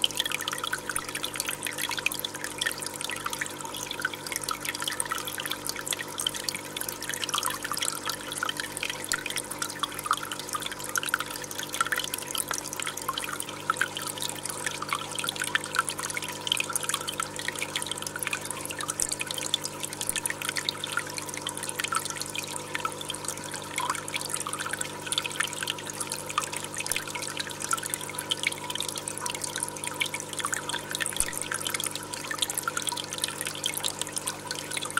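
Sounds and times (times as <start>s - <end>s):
faint steady hum: 0.0s - 34.9s
water trickling and dripping: 0.0s - 34.9s.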